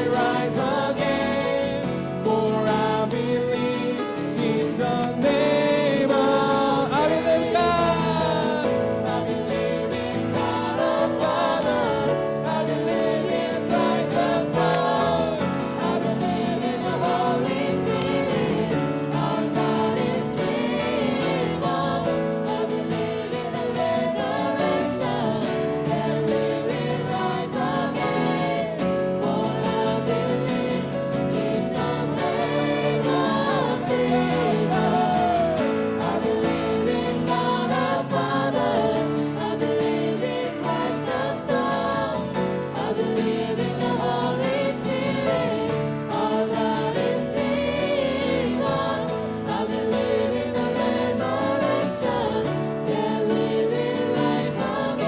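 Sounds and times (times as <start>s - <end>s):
group singing in unison: 0.0s - 55.0s
guitar accompaniment: 0.0s - 55.0s.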